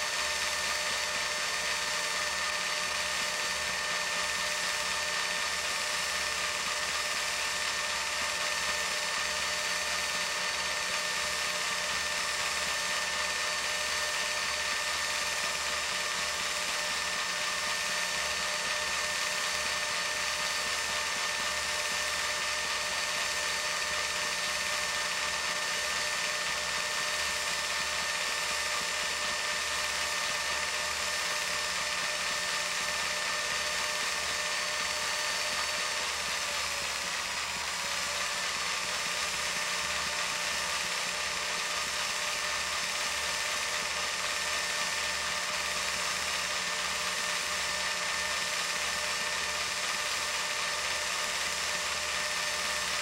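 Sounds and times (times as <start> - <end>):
film projector whirring: 0.0 - 53.0.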